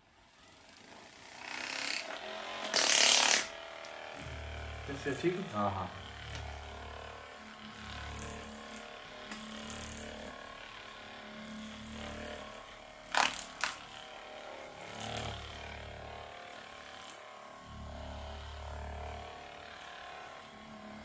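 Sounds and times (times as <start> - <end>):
massage gun motor buzz: 0.0 - 21.0.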